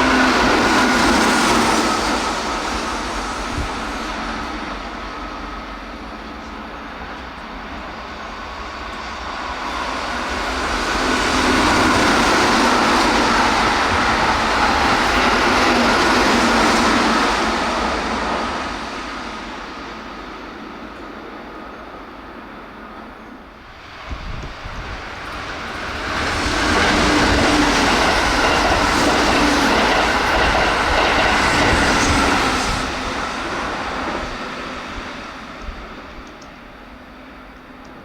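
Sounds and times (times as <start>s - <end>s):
train wheels rushing on rails: 0.0s - 38.0s.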